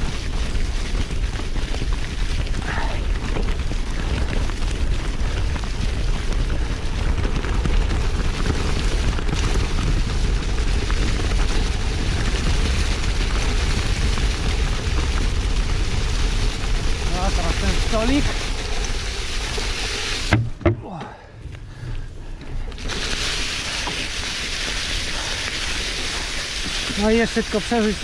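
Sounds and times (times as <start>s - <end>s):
bike tyres on leaves: 0.0s - 28.0s
wind rumbling on microphone: 0.0s - 28.0s.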